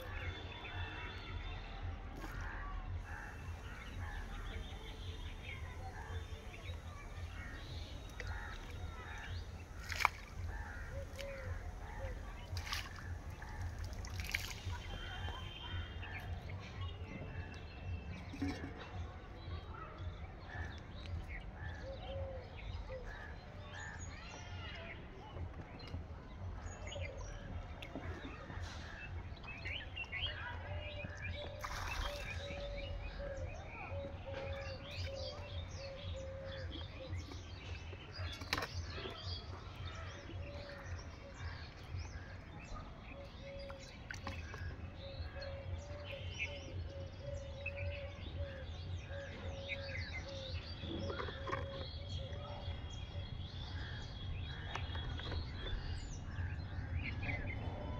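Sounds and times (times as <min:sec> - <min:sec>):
birds chirping: 0:00.0 - 0:57.9.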